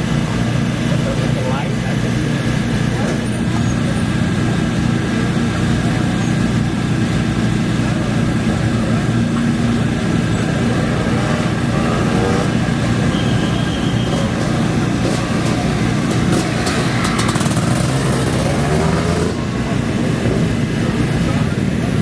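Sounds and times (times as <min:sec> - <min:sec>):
motorcycle and quad engines: 0:00.0 - 0:22.0.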